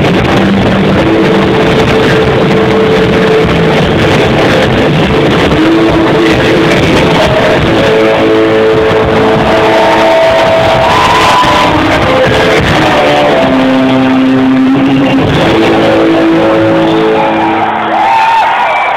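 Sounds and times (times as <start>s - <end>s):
rock band playing live: 0.0s - 18.9s.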